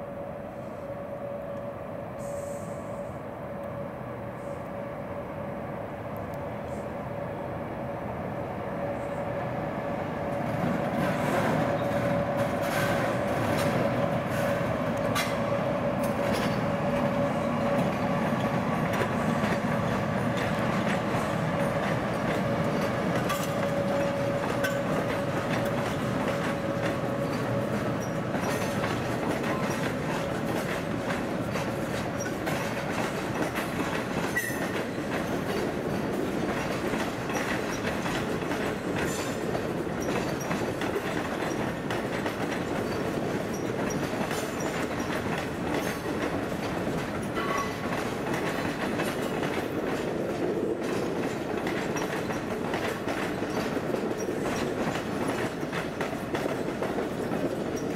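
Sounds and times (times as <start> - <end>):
train wheels clickety-clack: 8.8 - 57.9.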